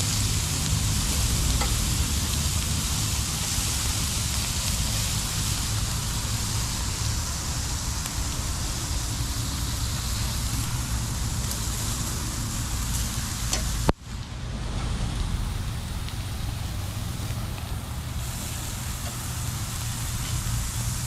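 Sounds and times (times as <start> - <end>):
burgers sizzling on a grill: 0.0 - 21.0
low rumble: 0.0 - 21.0.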